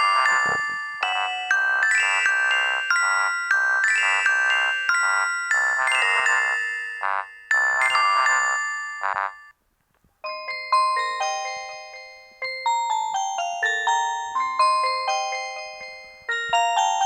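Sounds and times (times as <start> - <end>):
mobile phone ringtone melody: 0.0 - 9.6, 10.3 - 17.0.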